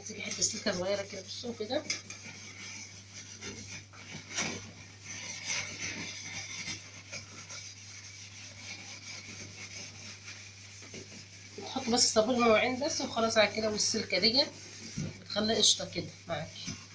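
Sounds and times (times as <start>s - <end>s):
steel wool scrubbing metal: 0.0s - 16.9s.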